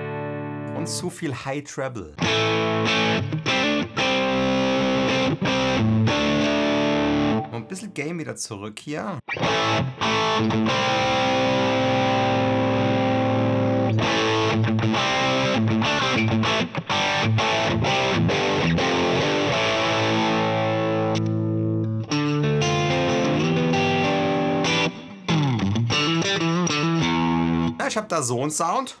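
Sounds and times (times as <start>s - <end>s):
distorted electric guitar chords: 0.0s - 1.1s, 2.2s - 7.6s, 9.3s - 27.8s.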